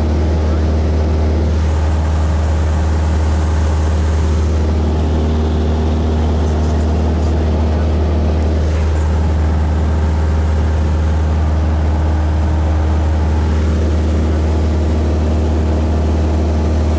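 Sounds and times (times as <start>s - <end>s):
propeller engine droning in cabin: 0.0s - 16.9s.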